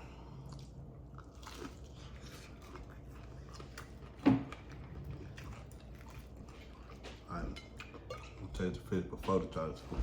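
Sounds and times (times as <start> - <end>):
quiet eating sounds: 0.0 - 10.0.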